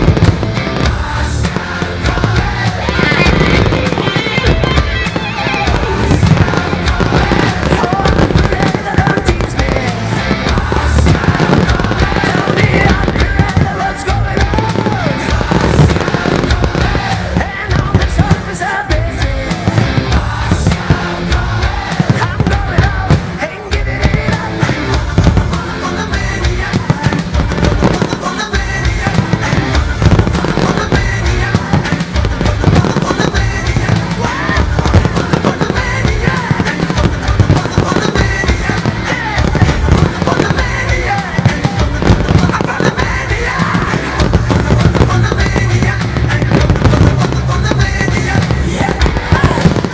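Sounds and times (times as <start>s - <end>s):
fireworks bursting and crackling: 0.0s - 49.9s
loud music with heavy bass: 0.0s - 49.9s.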